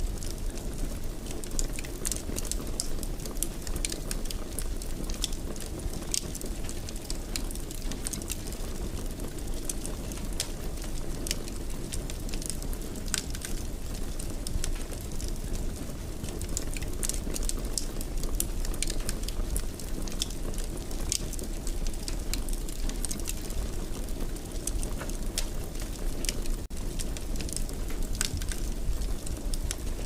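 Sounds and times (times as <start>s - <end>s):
fire crackling and popping: 0.0s - 30.0s
fire flames rumbling: 0.0s - 30.0s.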